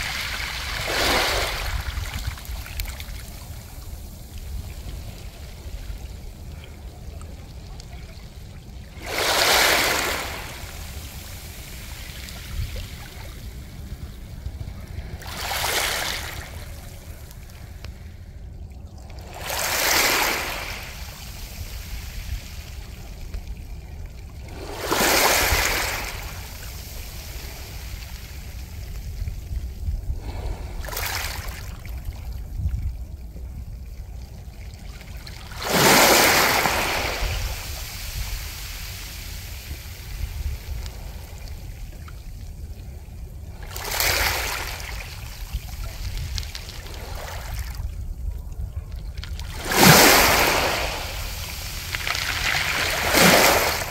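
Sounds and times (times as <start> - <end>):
waves washing over pebbles: 0.0 - 6.9, 7.5 - 17.6, 19.1 - 32.1, 35.1 - 41.9, 42.6 - 48.2, 49.3 - 53.9.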